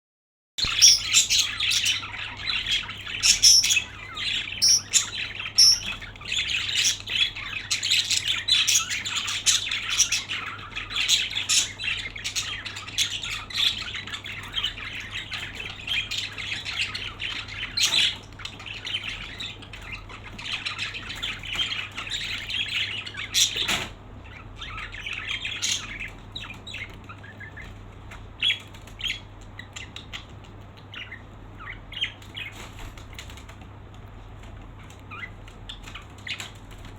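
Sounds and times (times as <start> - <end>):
small birds chirping: 0.6 - 36.9.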